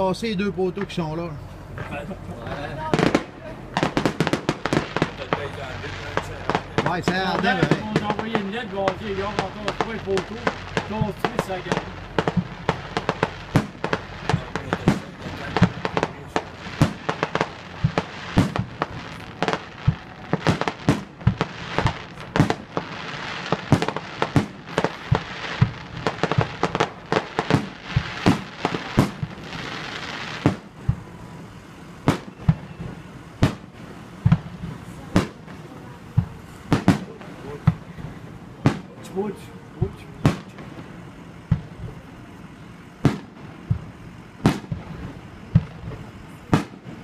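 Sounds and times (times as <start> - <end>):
background hiss: 0.0 - 47.0
firework bangs: 0.0 - 47.0.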